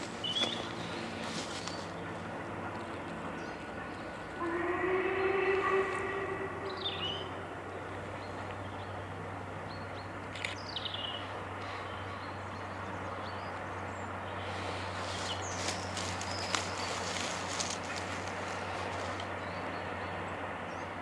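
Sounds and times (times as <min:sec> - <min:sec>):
bird chirping: 0:00.0 - 0:02.1, 0:02.8 - 0:20.9
distant steam locomotive rumble: 0:00.0 - 0:21.0.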